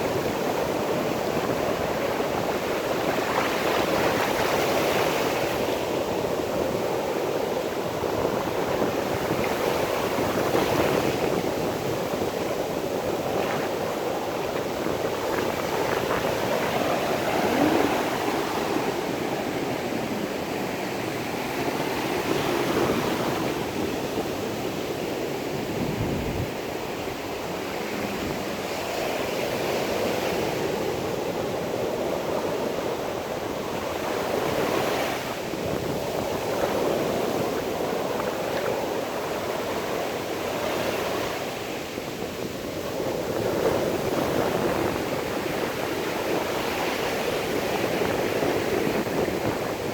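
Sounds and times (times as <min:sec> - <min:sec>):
sea waves washing on shore: 0:00.0 - 0:49.9
wind noise: 0:00.0 - 0:49.9.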